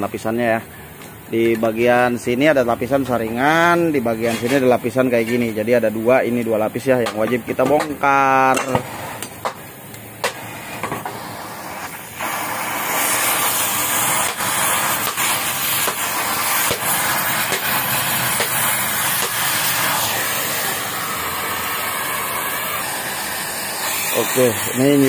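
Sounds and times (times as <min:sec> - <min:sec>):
cutting torch hissing: 0:00.0 - 0:25.0
molten metal crackling: 0:01.3 - 0:25.0.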